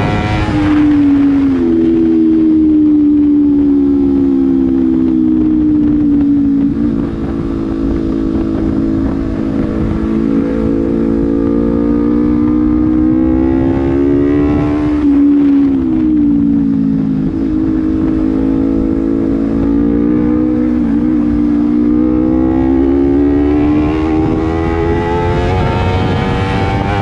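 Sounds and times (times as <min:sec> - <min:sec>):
motorcycle engine riding: 0:00.0 - 0:27.0.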